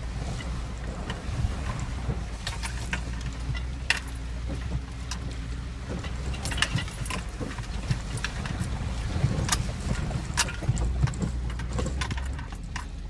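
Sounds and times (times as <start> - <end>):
truck engine running low: 0.0 - 13.0
truck rattling and clicking: 0.0 - 13.0.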